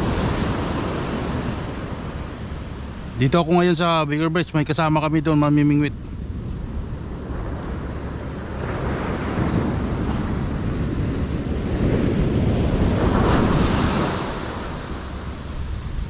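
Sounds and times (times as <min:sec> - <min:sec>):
ocean surf breaking on beach: 0:00.0 - 0:16.0
wind rumbling on microphone: 0:00.0 - 0:16.0.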